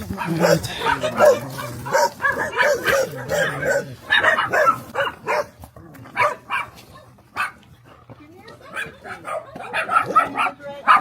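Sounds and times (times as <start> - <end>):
dogs barking: 0.0 - 7.7, 8.6 - 11.0.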